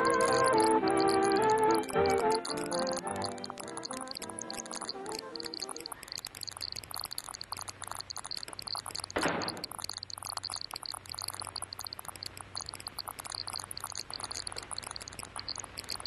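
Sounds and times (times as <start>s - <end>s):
film soundtrack crackle and hum: 0.0s - 16.0s.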